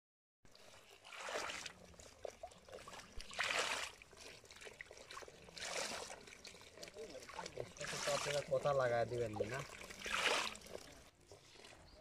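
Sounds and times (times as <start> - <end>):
muddy water splashing from a bowl: 0.5 - 12.0.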